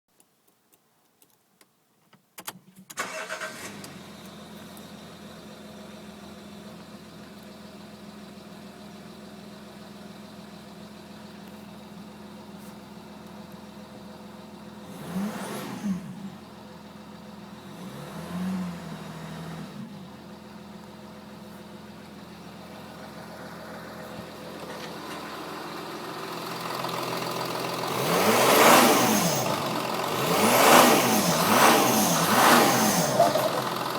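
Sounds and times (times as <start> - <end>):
diesel car engine idling and revving: 3.0 - 33.9.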